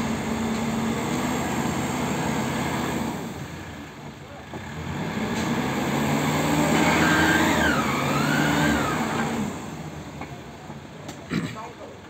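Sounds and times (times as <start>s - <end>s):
diesel engine revving: 0.0s - 11.3s.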